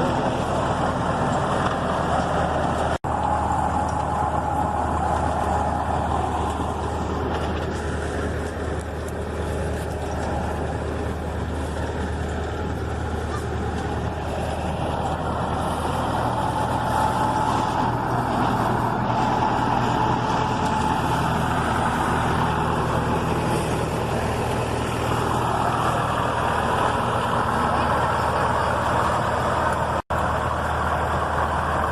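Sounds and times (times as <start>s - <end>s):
bulldozer diesel engine: 0.0s - 31.9s.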